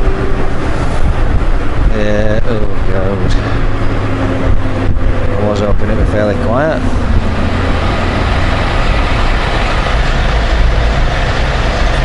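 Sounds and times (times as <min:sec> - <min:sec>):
motorcycle engine rumble: 0:00.0 - 0:12.0
motorway traffic road noise: 0:00.0 - 0:12.0.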